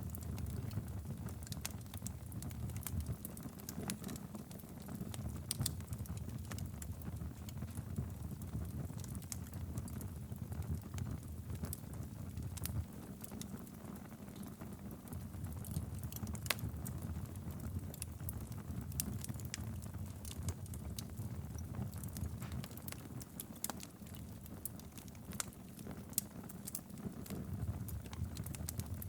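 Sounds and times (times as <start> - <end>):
fire crackling and popping: 0.0 - 29.0
wood fire rumbling: 0.0 - 29.0.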